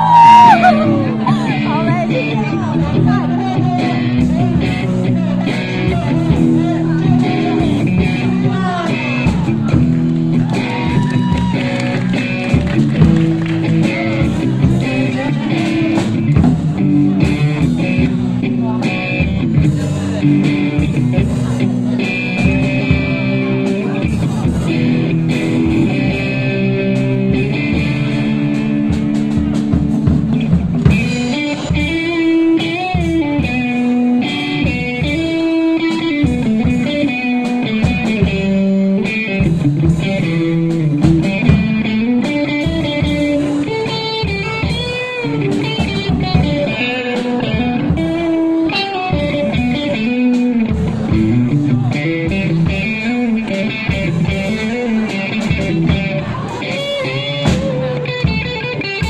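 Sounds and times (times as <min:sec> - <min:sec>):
drum kit beat: 0:00.0 - 0:59.0
electric guitar lead melody: 0:00.0 - 0:59.0.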